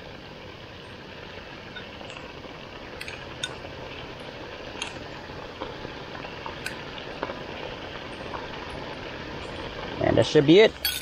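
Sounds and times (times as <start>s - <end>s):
sauce simmering with bubbling pops: 0.0s - 10.8s.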